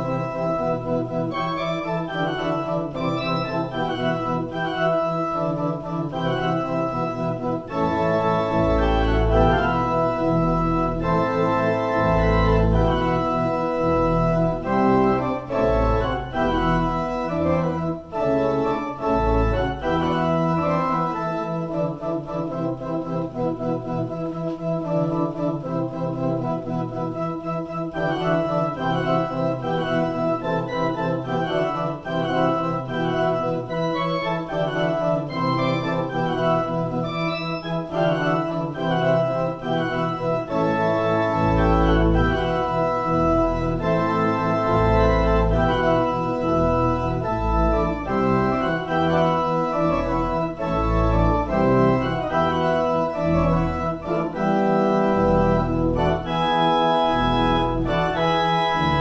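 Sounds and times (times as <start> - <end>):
deep organ bass notes: 0.0 - 59.0
organ playing held chords: 0.0 - 59.0.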